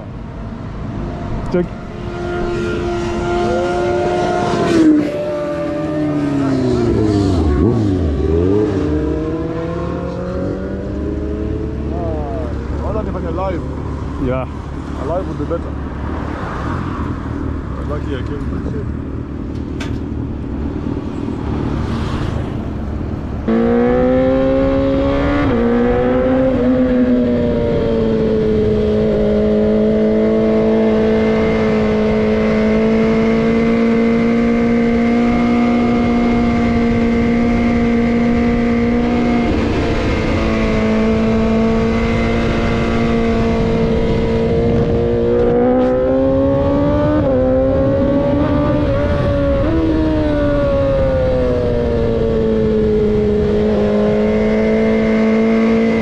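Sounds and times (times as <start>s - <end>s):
wind noise: 0.0s - 56.0s
motorcycle engine cruising: 0.9s - 56.0s.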